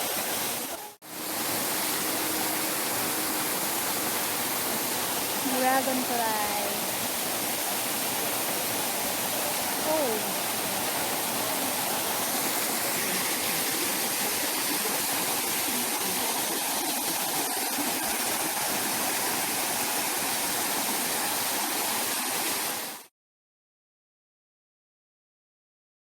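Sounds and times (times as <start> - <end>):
waterfall rushing: 0.0 - 23.1.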